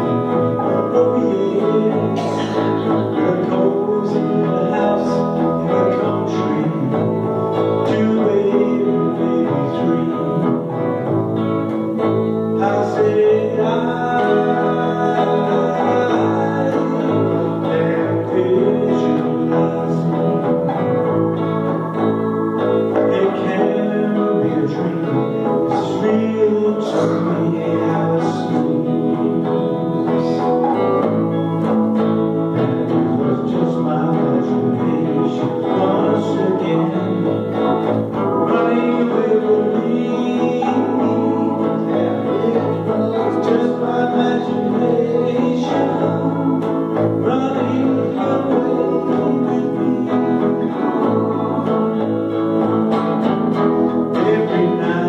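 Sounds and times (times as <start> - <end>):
man singing into microphone: 0.0 - 55.0
strummed guitars: 0.0 - 55.0.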